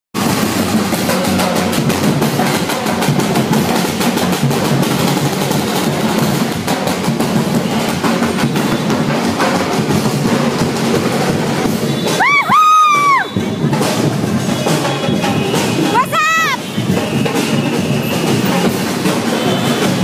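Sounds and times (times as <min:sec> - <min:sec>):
drums playing fast beat: 0:00.1 - 0:20.0.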